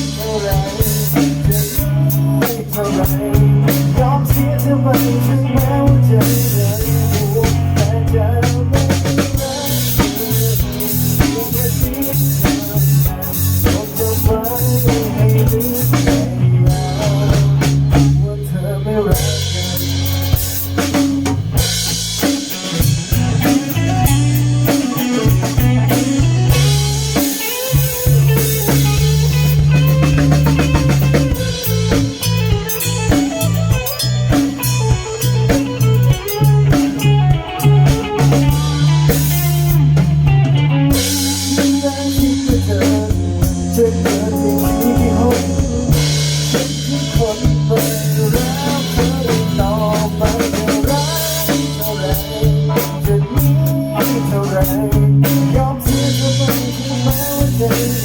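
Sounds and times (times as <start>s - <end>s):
band playing instrumental: 0.0s - 58.0s
drum kit: 0.0s - 58.0s
guitar: 0.0s - 58.0s.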